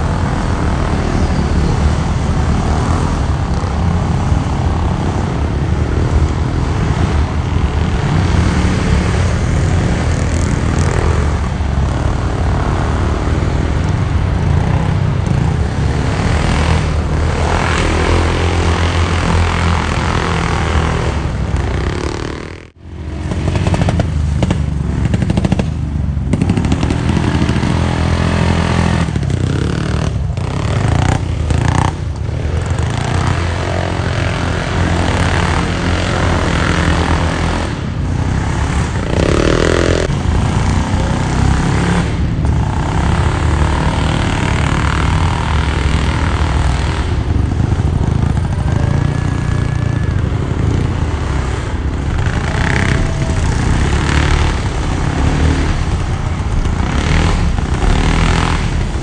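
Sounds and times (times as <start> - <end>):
motorcycle engines droning: 0.0 - 59.0.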